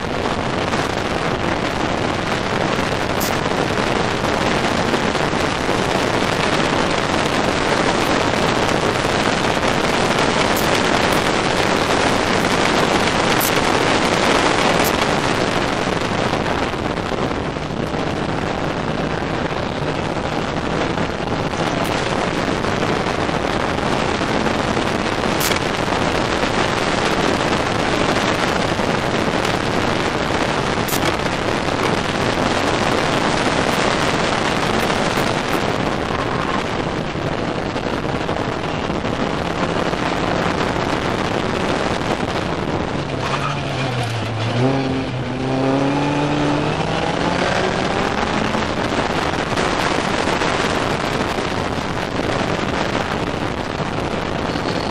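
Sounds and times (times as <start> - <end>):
race car engine: 0.0 - 54.9
wind buffeting microphone: 0.0 - 54.9.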